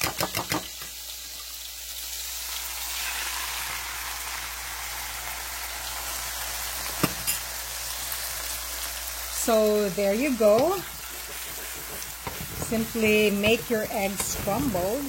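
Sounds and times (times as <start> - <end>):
eggs sizzling in a pan: 0.0 - 15.0.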